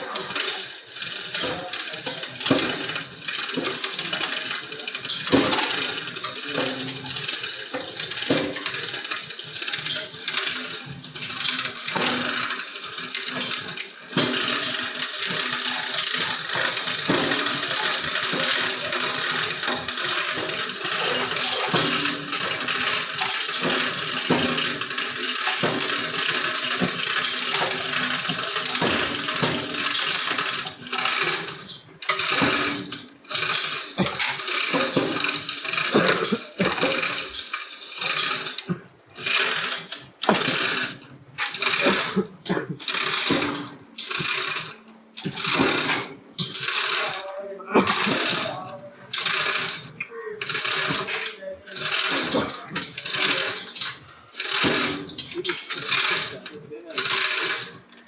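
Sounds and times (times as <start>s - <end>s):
small machine rattling whir: 0.0s - 58.0s.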